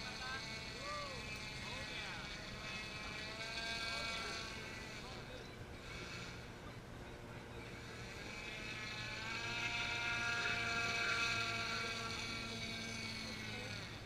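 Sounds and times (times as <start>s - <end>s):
model boat motor whining: 0.0s - 14.0s.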